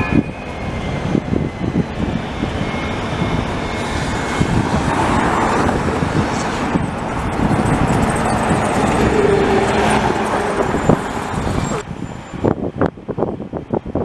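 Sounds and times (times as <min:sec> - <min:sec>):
road traffic: 0:00.0 - 0:14.0
tram wheels rumbling on rails: 0:00.0 - 0:14.0.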